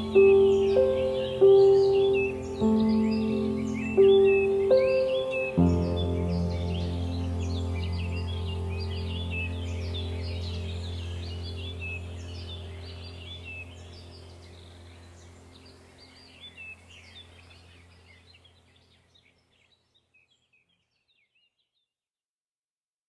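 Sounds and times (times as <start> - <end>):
steady low hum: 0.0 - 18.8
birds chirping: 0.0 - 21.7.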